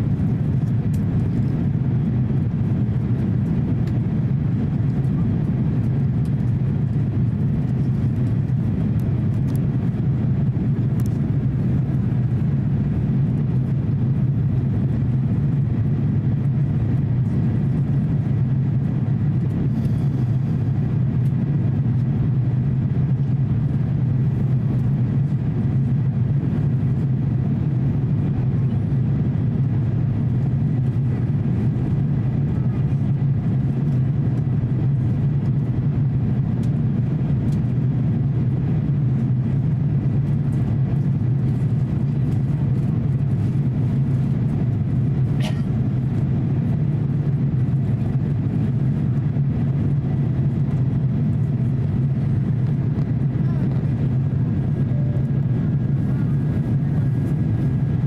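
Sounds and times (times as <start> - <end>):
aircraft cabin engine hum: 0.0 - 58.0.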